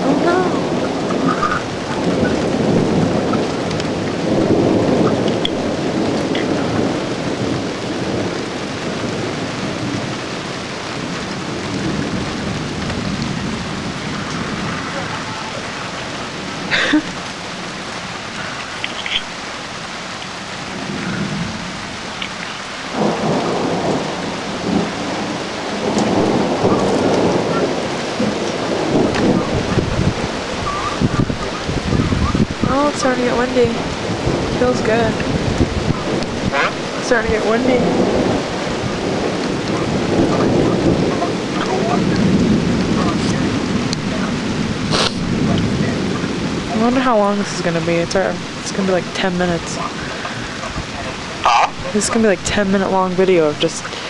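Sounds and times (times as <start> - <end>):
sharp thunder crack: 0.0 - 17.8, 22.8 - 54.0
rain pouring: 0.0 - 54.0
thunder rumbling: 0.0 - 54.0.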